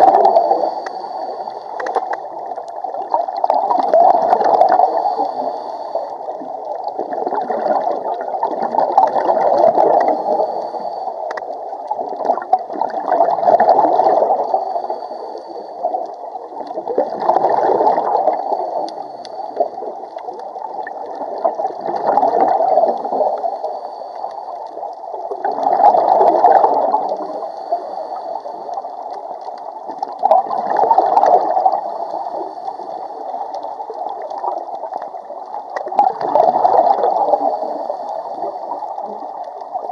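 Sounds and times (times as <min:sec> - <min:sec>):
regulator bubbles gurgling: 0:00.0 - 0:39.9
steady underwater bubbling: 0:00.0 - 0:39.9.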